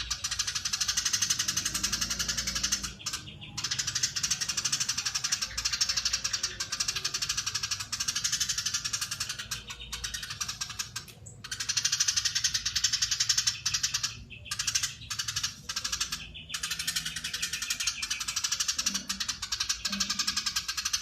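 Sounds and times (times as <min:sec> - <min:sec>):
sparrow chattering: 0:00.0 - 0:21.0.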